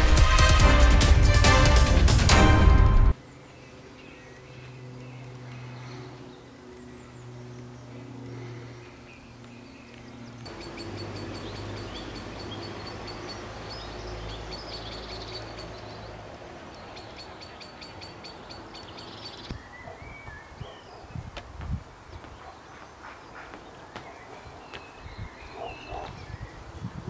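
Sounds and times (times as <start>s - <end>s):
distant traffic hum: 3.1s - 26.8s
small birds chirping: 3.2s - 27.0s.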